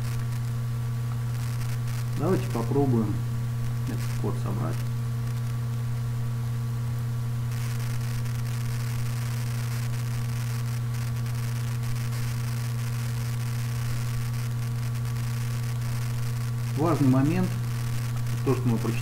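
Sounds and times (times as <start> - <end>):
background hiss with crackle: 0.0 - 19.0
electrical mains hum: 0.0 - 19.0.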